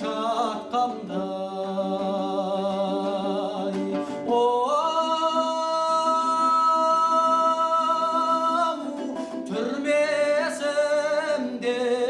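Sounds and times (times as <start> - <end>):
person singing ornamented folk song: 0.0 - 12.0
plucked-string accompaniment: 0.0 - 12.0.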